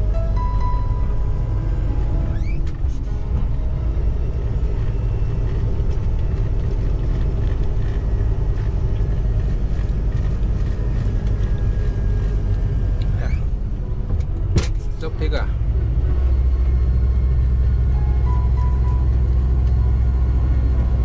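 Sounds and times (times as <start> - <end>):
vehicle engine and tyre rumble: 0.0 - 21.0.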